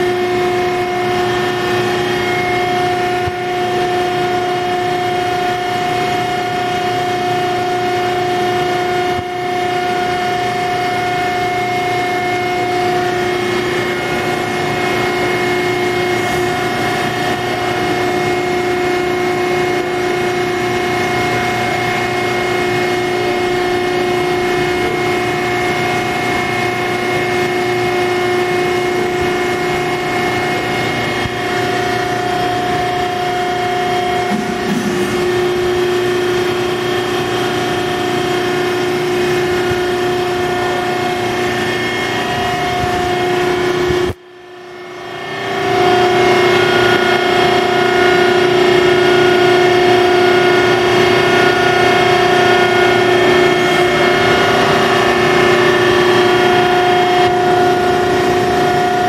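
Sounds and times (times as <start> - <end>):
hydraulic pump hum and whine: 0.0 - 59.0.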